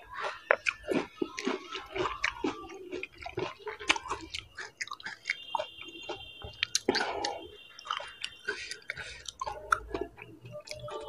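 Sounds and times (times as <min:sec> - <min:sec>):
crunchy chewing with wet squelches: 0:00.0 - 0:11.0.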